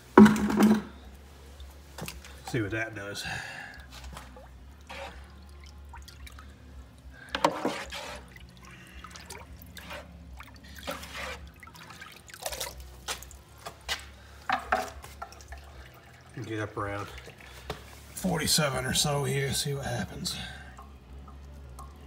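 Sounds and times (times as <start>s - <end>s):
water pouring and splashing: 0.1s - 22.0s.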